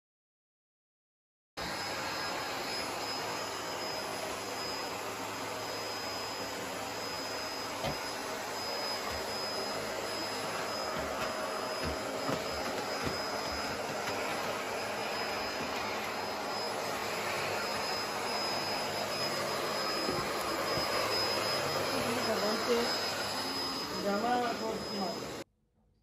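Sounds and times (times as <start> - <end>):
vacuum cleaner running: 1.6 - 25.5.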